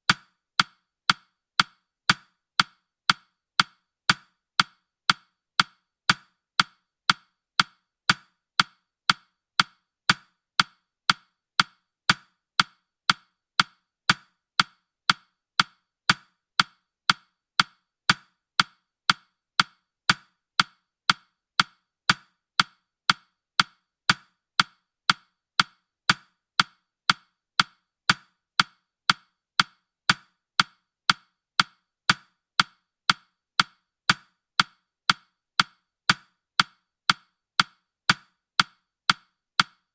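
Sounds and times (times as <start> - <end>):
clock-like timer ticking: 0.0 - 39.9.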